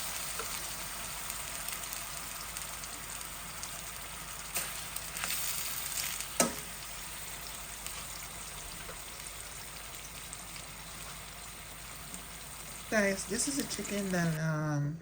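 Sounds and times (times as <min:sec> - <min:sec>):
chicken sizzling in a skillet: 0:00.0 - 0:14.5.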